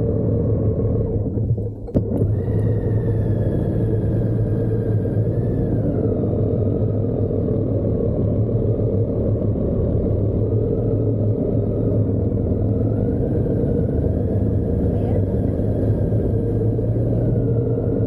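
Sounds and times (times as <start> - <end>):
faint whine: 0.0 - 18.0
wind rumble: 0.0 - 18.0.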